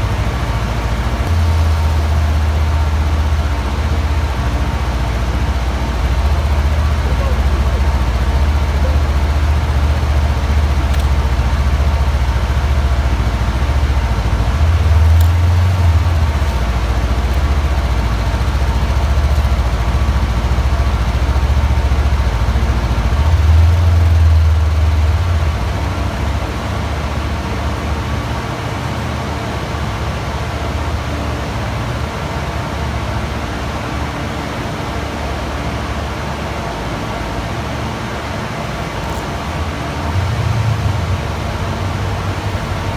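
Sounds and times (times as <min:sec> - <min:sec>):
motorcycle engine low rumble: 0:00.0 - 0:42.9.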